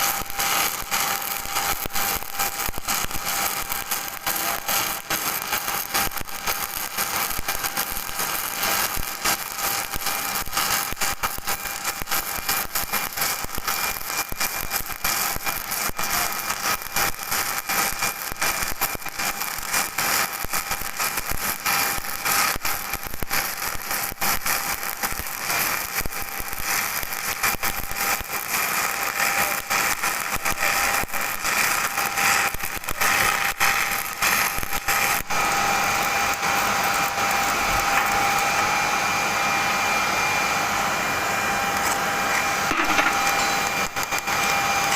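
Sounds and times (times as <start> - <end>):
welding arc crackling: 0.0 - 44.9.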